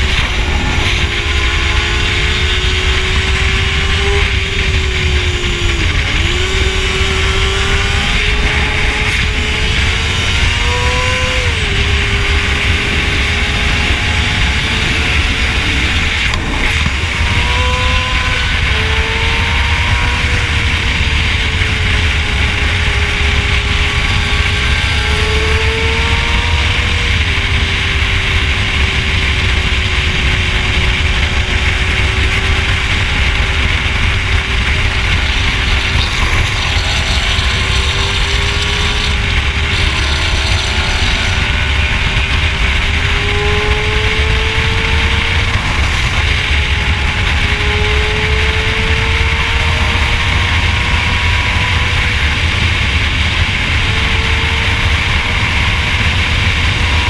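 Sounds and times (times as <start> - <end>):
motorcycle engine cruising: 0.0 - 57.0
wind rumble on microphone: 0.0 - 57.0.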